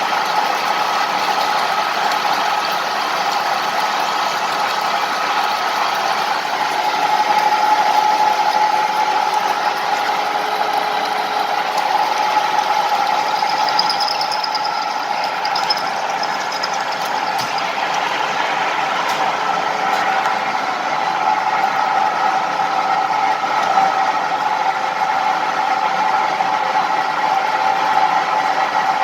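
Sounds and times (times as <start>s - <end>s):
high machine whine: 0.0s - 27.4s
metal lathe running: 0.0s - 29.0s.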